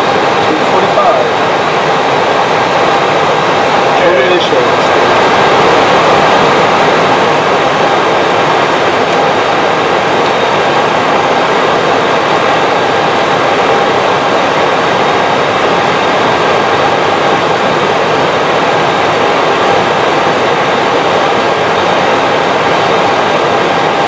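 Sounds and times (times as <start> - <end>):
cockpit airflow roar: 0.0 - 24.0
faint steady hum: 0.0 - 24.0.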